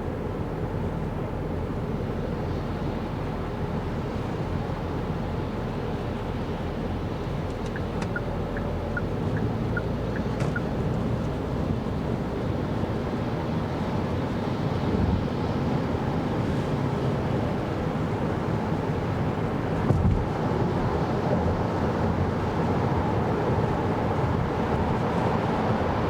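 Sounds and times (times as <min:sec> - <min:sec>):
car cabin road and wind noise: 0:00.0 - 0:26.0.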